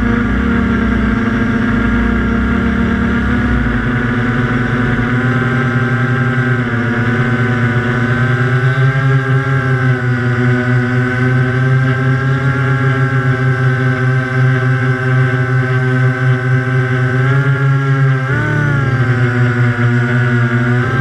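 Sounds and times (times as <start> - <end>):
drone motors humming: 0.0 - 21.0.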